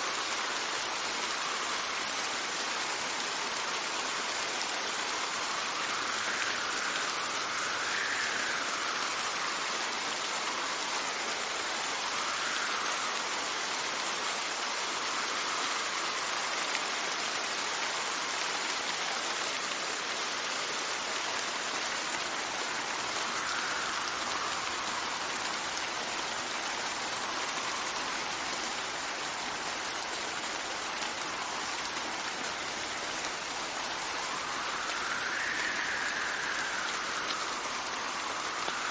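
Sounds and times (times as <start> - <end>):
steady rain hiss: 0.0 - 38.9
wind gusts: 0.0 - 38.9.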